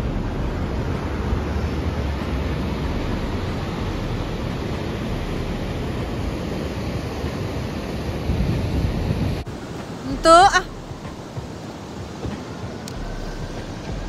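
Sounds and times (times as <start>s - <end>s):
water rushing over weir: 0.0s - 14.0s
wind rumbling on microphone: 0.0s - 14.0s.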